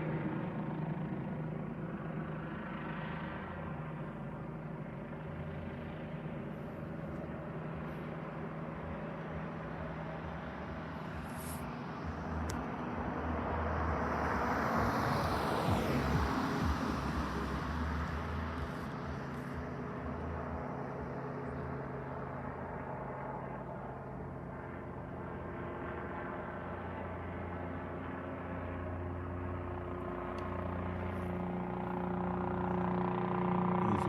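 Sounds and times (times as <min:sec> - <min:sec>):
steady engine drone: 0:00.0 - 0:34.0.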